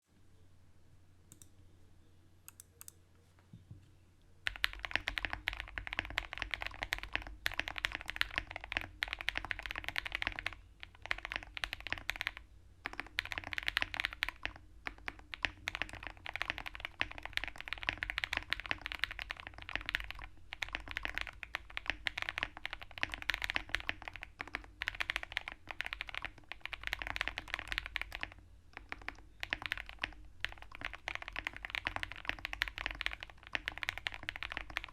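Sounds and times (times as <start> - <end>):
mechanical keyboard typing: 4.5 - 34.9.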